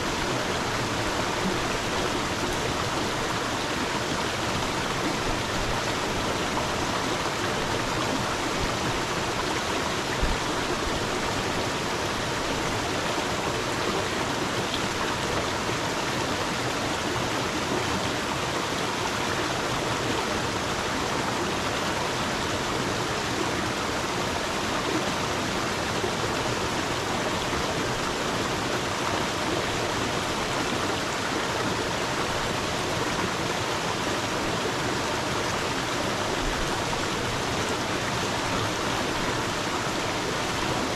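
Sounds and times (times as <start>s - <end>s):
water stream flowing: 0.0s - 40.9s.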